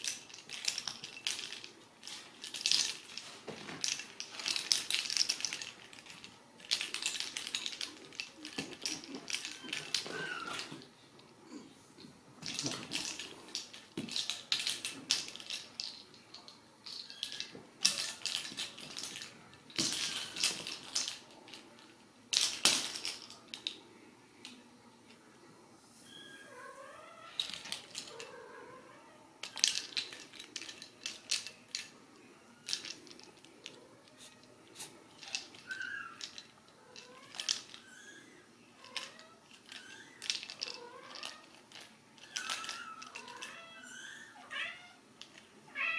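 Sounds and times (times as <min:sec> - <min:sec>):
kittens scratching and batting toy: 0:00.0 - 0:11.0, 0:12.0 - 0:23.8, 0:27.1 - 0:45.9.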